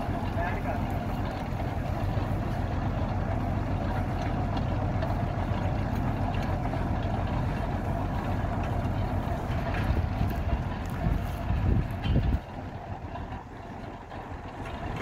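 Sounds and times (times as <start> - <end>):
engine running with low drone: 0.0 - 15.0.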